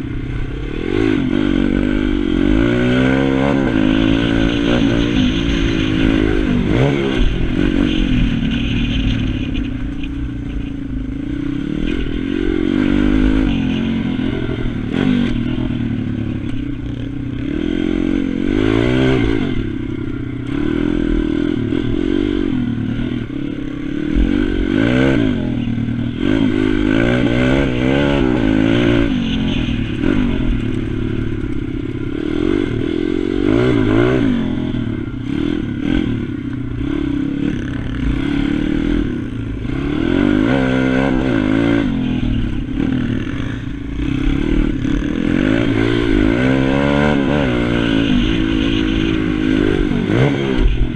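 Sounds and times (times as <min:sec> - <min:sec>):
pit bike engine revving: 0:00.0 - 0:50.9.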